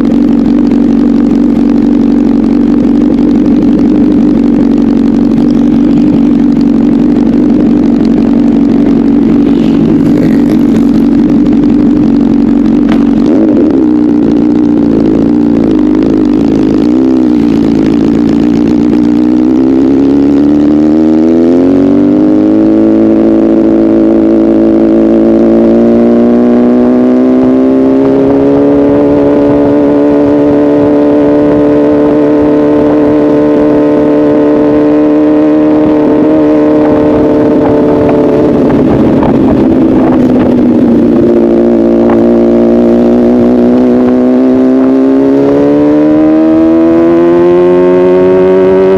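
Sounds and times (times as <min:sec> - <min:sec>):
motorcycle engine at high revs: 0:00.0 - 0:48.9.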